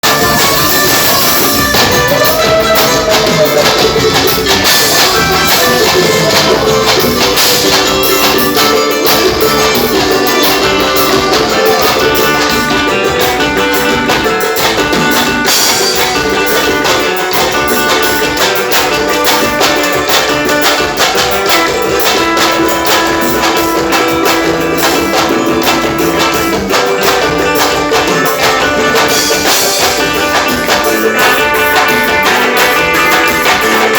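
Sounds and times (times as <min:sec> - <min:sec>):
strummed guitar: 0:00.0 - 0:33.9
sustained pitched notes: 0:00.0 - 0:33.9
tambourines shaken and struck: 0:00.0 - 0:33.9.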